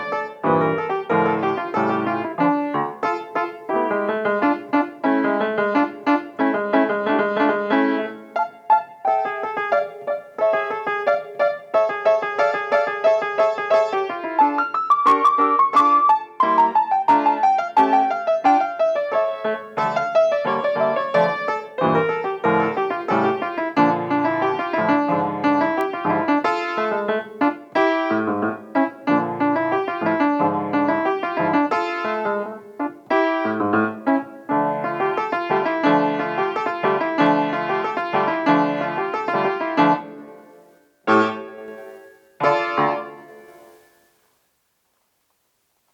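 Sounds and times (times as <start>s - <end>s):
solo piano playing fast: 0.0s - 43.8s.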